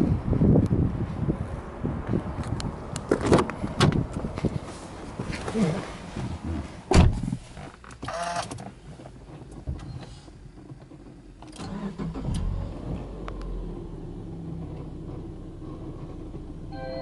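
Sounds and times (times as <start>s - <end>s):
car engine starting and idling: 0.2s - 17.0s.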